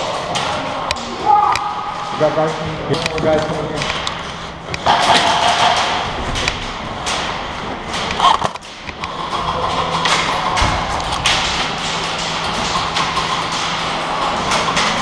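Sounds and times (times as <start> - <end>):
echoing indoor background noise: 0.0 - 15.0.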